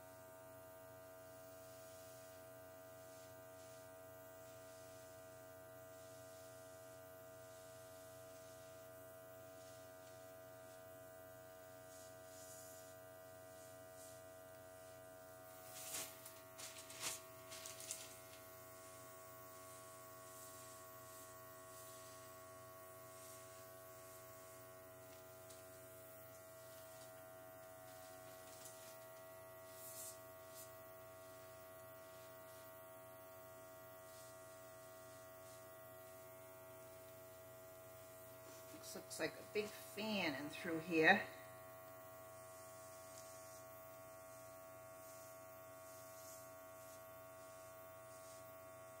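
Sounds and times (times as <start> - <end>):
airbrush compressor hum: 1.6 - 49.0.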